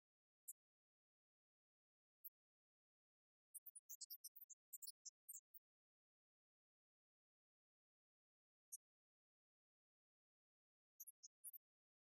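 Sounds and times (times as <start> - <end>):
faint high-pitched ticks: 0.0 - 12.0.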